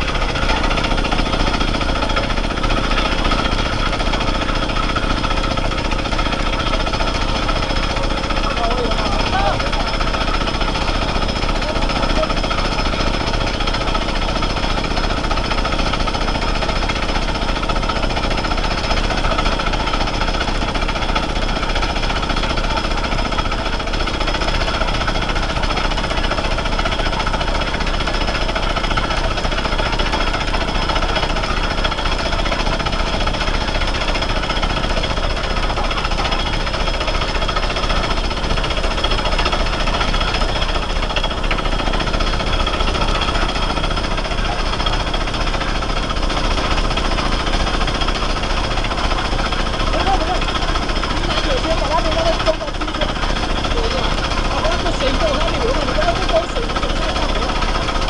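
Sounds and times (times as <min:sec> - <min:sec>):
rock drill hammering: 0:00.0 - 0:58.0.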